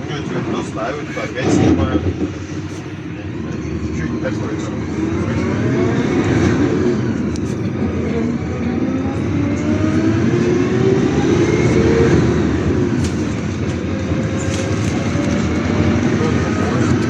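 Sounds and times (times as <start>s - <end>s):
bus engine and road noise: 0.0s - 17.0s
rising engine whine: 0.0s - 17.0s.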